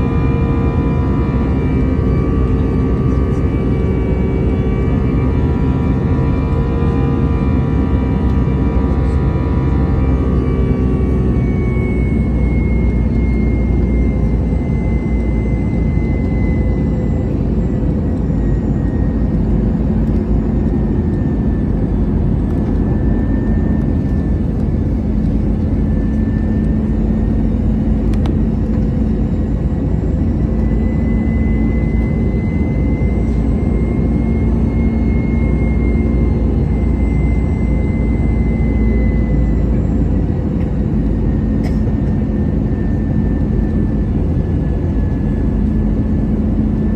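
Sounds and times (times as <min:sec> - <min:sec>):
constant hum: 0:00.0 - 0:46.9
faint wavering high whine: 0:00.0 - 0:46.9
jet engine cabin rumble: 0:00.0 - 0:46.9.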